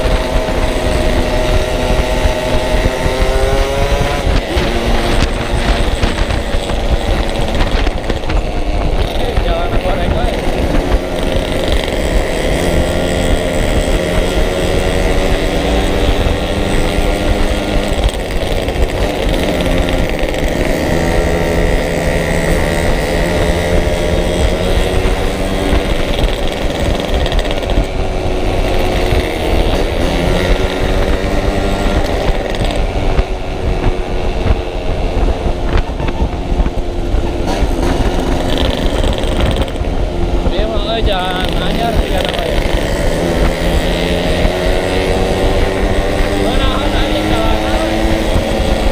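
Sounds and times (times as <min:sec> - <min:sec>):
motorcycle engine revving: 0:00.0 - 0:48.9
wind buffeting microphone: 0:00.0 - 0:48.9.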